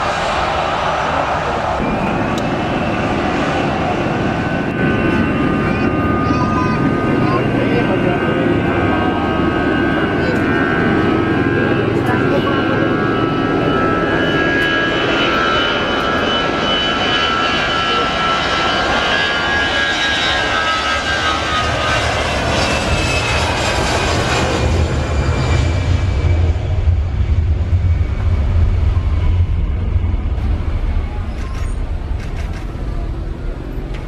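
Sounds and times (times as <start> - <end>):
jet engines at take-off power: 0.0 - 34.0.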